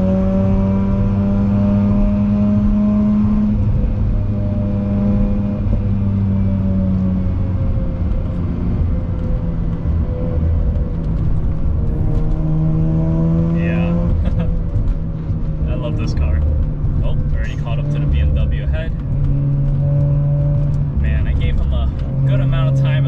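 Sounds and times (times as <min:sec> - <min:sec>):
car engine: 0:00.0 - 0:23.0
road noise: 0:00.0 - 0:23.0.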